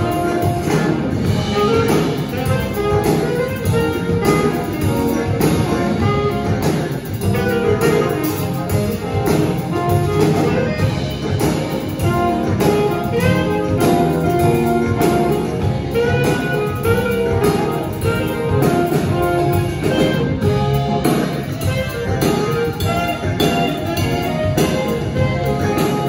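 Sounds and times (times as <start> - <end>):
drum kit steady beat: 0.0 - 26.0
electric bass: 0.0 - 26.0
electric guitar: 0.0 - 26.0
keyboards: 0.0 - 26.0
saxophone melody: 0.0 - 26.0.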